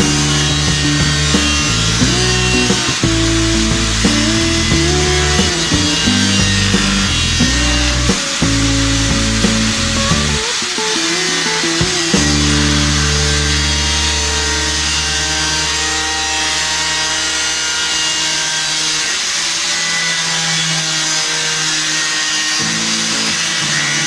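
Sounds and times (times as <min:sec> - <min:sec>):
electric power tool grinding: 0:00.0 - 0:24.0.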